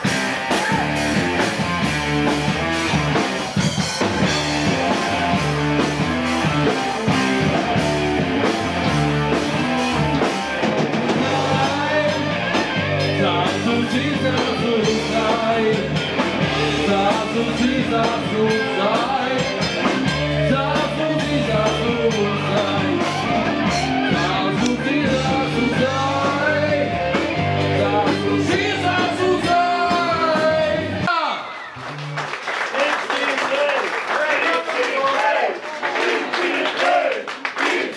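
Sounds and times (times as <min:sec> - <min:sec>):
bass guitar: 0:00.0 - 0:31.1
drum kit: 0:00.0 - 0:31.1
electric guitar: 0:00.0 - 0:31.1.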